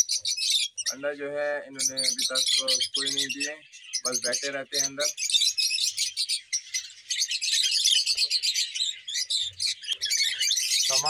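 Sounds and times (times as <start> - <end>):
lovebirds chirping and chattering: 0.0 - 11.0.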